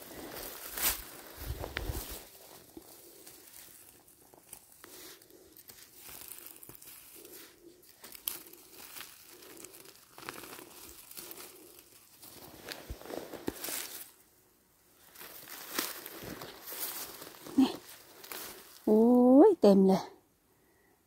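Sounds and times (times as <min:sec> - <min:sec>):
close rustling and crackling: 0:00.0 - 0:14.3, 0:14.9 - 0:19.2.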